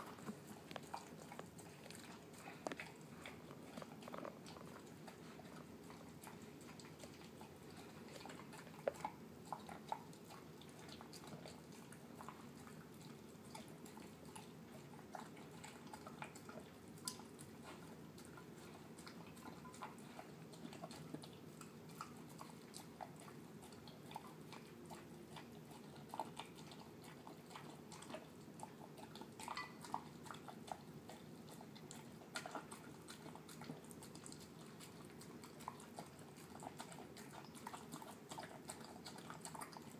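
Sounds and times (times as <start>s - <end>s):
dog chewing wet food: 0.0s - 39.9s.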